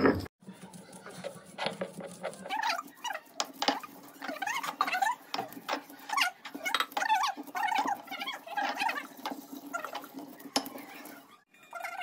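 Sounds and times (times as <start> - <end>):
stone grinding on a slab: 1.0 - 11.2.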